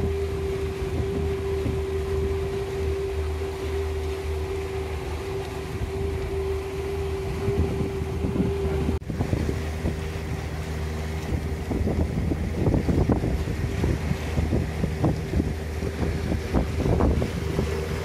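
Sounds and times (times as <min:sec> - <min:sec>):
boat engine droning: 0:00.0 - 0:18.0
wind buffeting microphone: 0:00.0 - 0:18.0.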